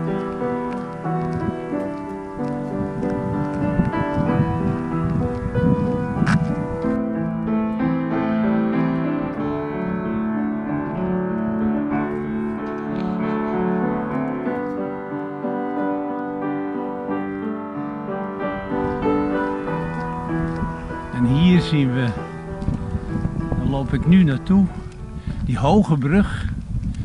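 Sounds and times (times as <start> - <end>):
piano music: 0.0 - 26.3.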